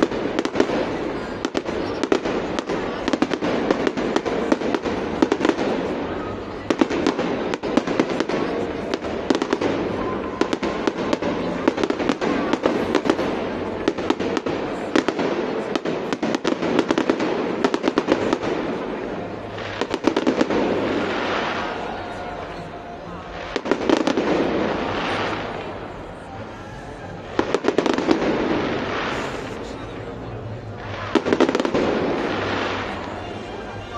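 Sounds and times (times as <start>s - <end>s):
fireworks bangs and crackle: 0.0s - 33.9s
fizzing rush of fireworks: 0.0s - 33.9s.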